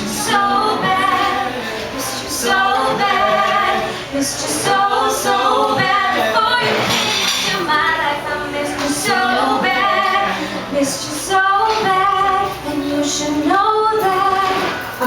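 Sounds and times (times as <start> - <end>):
woman singing pop melody: 0.0 - 15.0.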